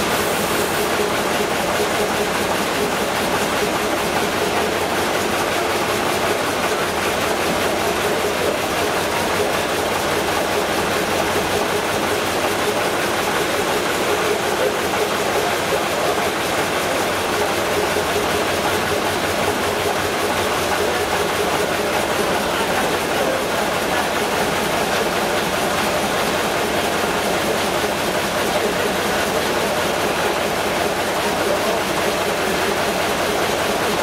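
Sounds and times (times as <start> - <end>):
stationary engine clattering: 0.0 - 34.0.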